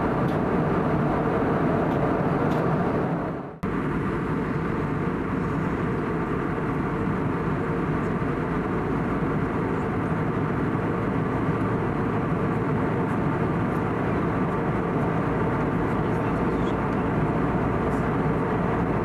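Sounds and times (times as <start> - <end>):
airflow rushing over fuselage: 0.0 - 19.0
jet engines humming: 0.0 - 19.0.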